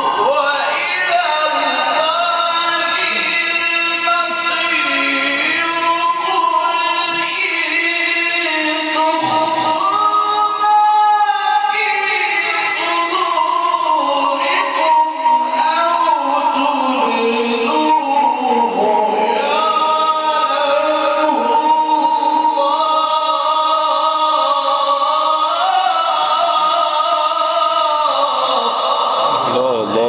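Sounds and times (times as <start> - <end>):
man reciting melodically: 0.0 - 30.0.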